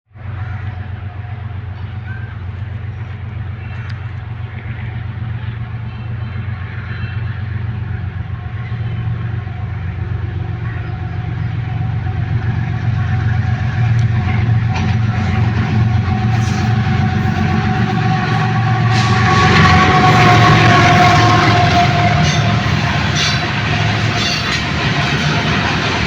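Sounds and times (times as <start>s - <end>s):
train rumbling past: 0.1s - 26.0s.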